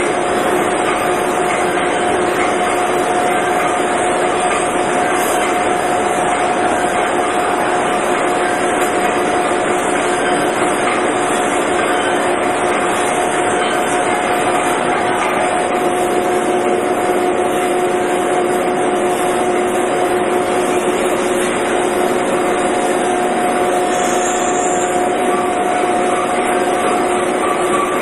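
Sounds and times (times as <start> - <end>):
machinery running: 0.0 - 28.0.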